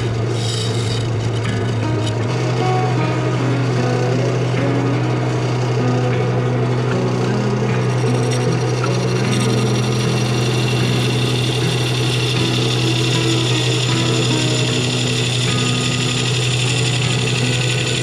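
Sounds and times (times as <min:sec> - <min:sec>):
gouge scraping wood on lathe: 0:00.0 - 0:18.0
lathe low hum: 0:00.0 - 0:18.0.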